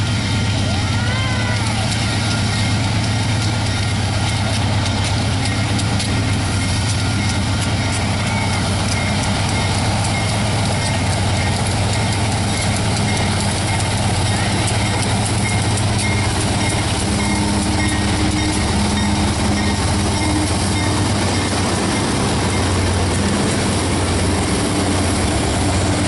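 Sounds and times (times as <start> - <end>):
diesel locomotive engines running: 0.0 - 26.0.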